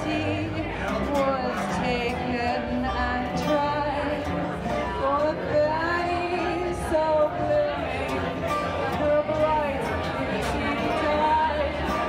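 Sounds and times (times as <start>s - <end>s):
guitar music with bending melody: 0.0s - 12.0s.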